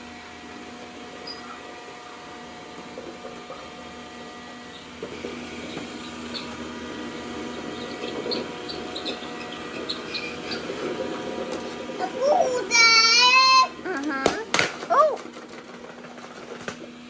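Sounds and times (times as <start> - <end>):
robot vacuum humming: 0.0 - 17.0.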